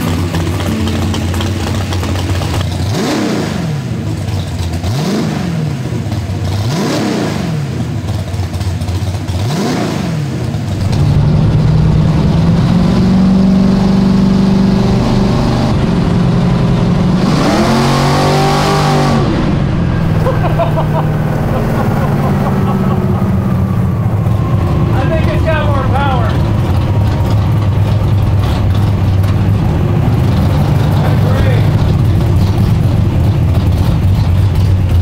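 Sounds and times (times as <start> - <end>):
drag car engine revving: 0.0 - 35.0.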